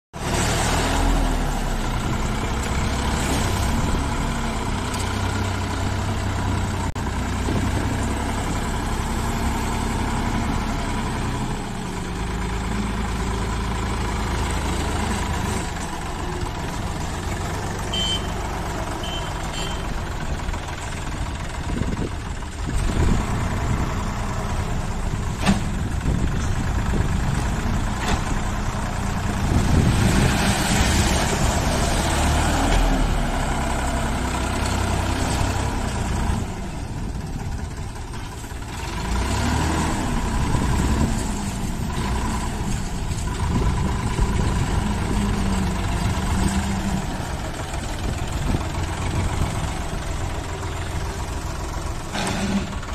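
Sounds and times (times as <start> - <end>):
front loader working gravel: 0.2 - 52.9
tractor diesel engine running: 0.2 - 52.9.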